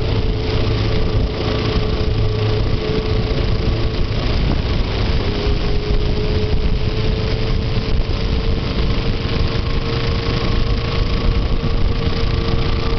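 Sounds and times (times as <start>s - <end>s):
heavy low rumble: 0.0s - 12.9s
motorcycle engine running: 0.0s - 12.9s.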